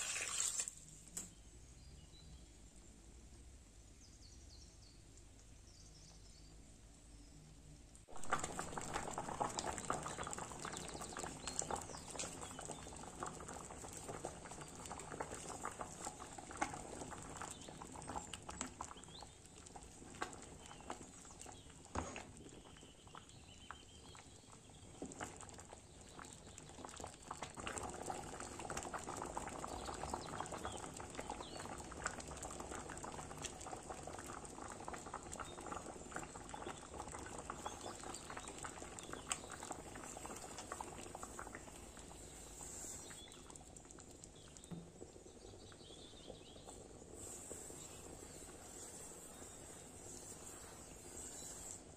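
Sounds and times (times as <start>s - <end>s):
water boiling and popping: 0.0s - 1.4s, 5.0s - 51.9s.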